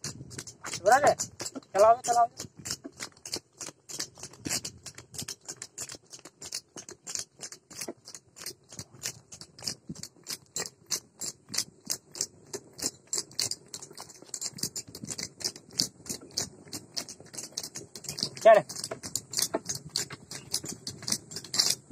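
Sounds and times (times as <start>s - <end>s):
hooves clattering on paved road: 0.0s - 21.9s.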